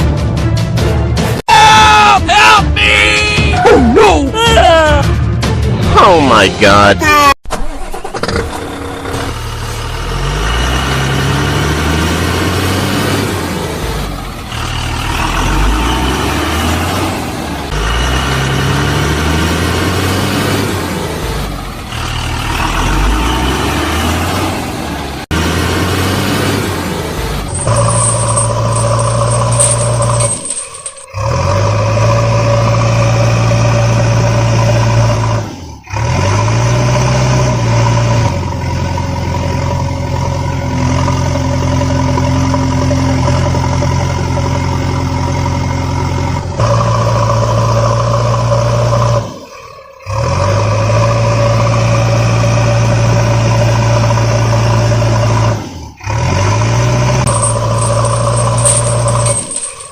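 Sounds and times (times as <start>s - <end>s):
heavy vehicle engine running: 7.9s - 59.9s.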